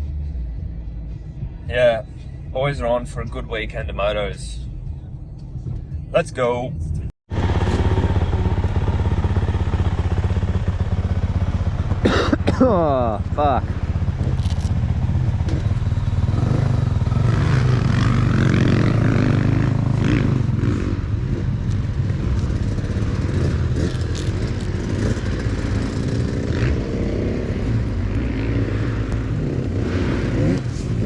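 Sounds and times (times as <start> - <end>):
vehicle engine droning: 0.0 - 31.0.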